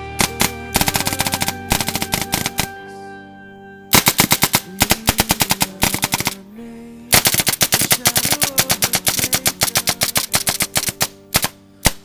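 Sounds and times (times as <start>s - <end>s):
paintball marker firing rapidly: 0.2s - 2.7s, 3.9s - 6.4s, 7.1s - 12.0s.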